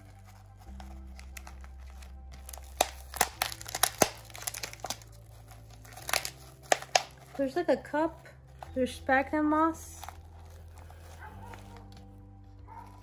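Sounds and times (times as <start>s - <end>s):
plastic crinkling: 0.0s - 13.0s
soft background music: 0.0s - 13.0s.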